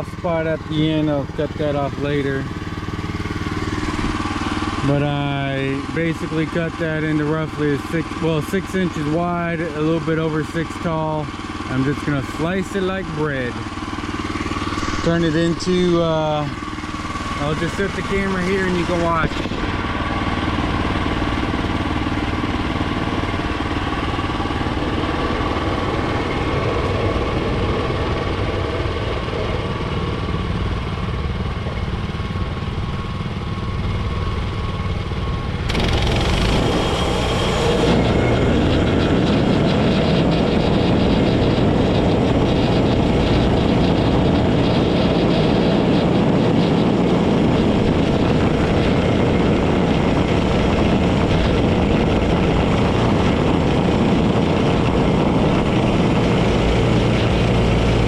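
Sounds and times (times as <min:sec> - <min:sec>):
band sawmill engine running: 0:00.0 - 0:58.0.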